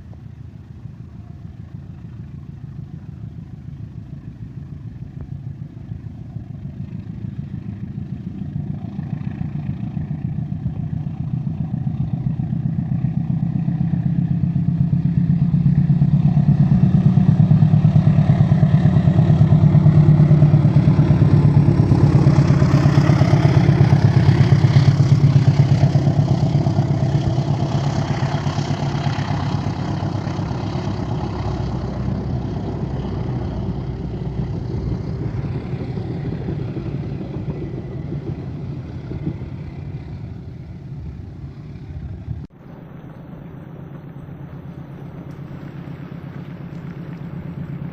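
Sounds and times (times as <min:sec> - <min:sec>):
diesel locomotive engine drone: 0:00.0 - 0:47.9.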